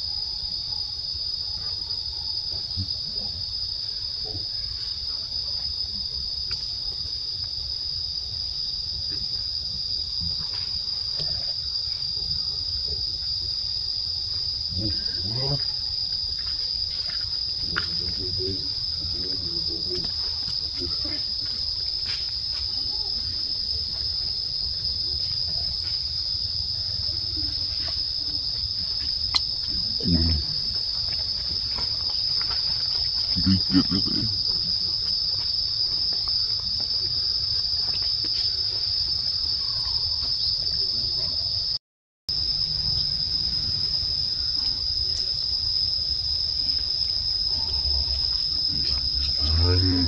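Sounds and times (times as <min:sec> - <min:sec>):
insect chorus drone: 0:00.0 - 0:50.0.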